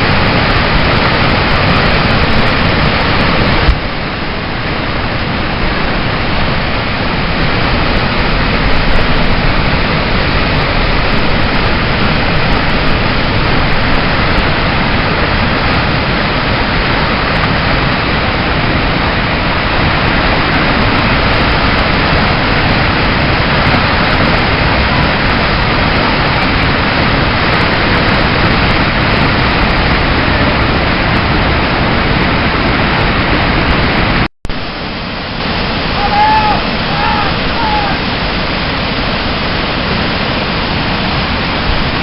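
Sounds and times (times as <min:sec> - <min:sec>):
river whitewater rushing: 0:00.0 - 0:42.0.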